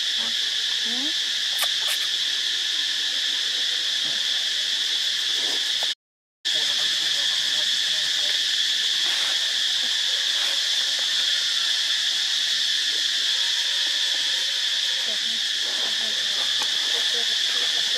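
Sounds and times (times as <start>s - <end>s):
high-pitched insect chorus: 0.0s - 17.9s.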